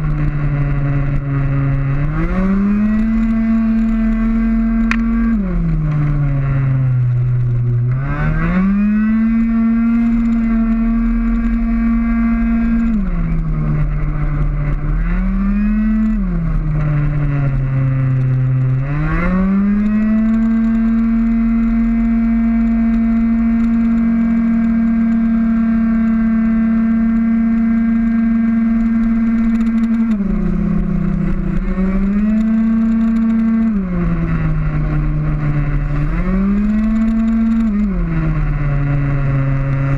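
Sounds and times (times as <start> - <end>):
scooter engine at full throttle: 0.0 - 39.9.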